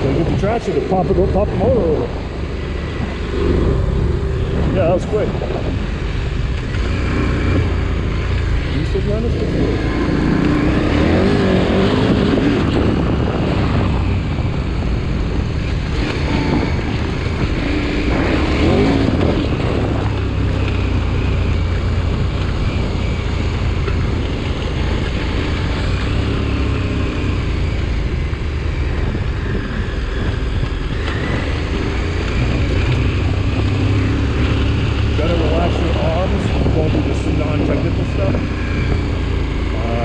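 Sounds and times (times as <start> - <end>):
motorcycle engine revving: 0.0 - 40.0
wind noise on microphone: 0.0 - 40.0.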